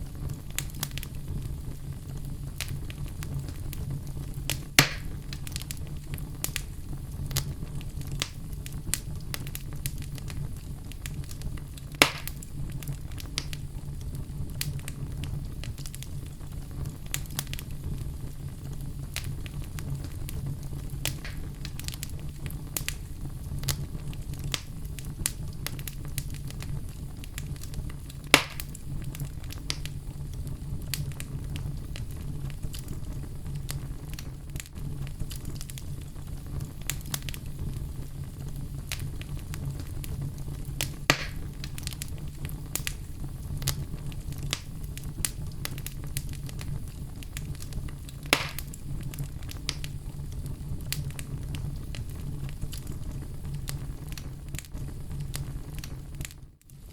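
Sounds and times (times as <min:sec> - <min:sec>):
loud fire pops: 0:00.0 - 0:56.9
wood fire crackling: 0:00.0 - 0:56.9.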